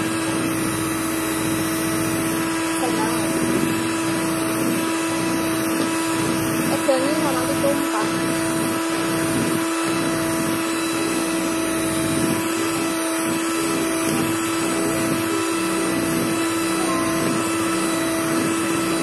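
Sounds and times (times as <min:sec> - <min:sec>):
electric hand mixer whisking batter: 0:00.0 - 0:19.0.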